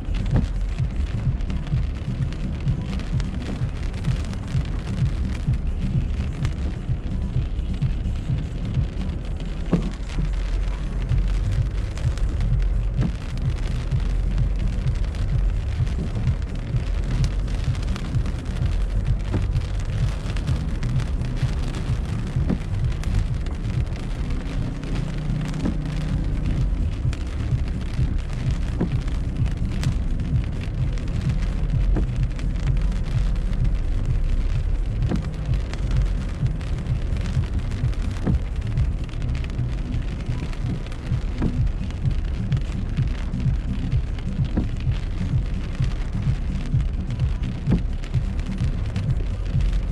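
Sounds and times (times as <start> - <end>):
low car rumble: 0.0 - 49.9
rain pattering on car windshield: 0.0 - 49.9.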